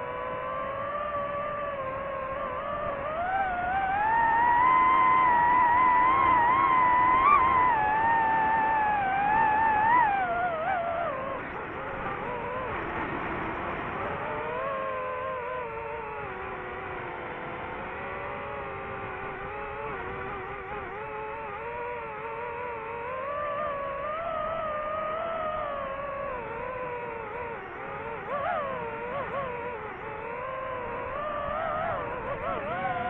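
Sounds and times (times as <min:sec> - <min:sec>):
drone propellers whining: 0:00.0 - 0:33.0.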